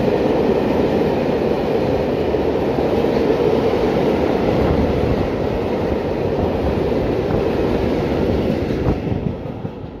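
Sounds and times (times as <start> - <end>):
freight train rolling past: 0.0 - 10.0.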